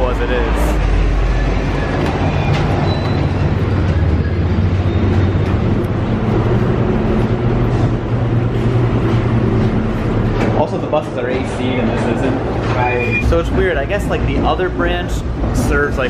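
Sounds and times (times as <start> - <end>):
tram running: 0.0 - 16.0.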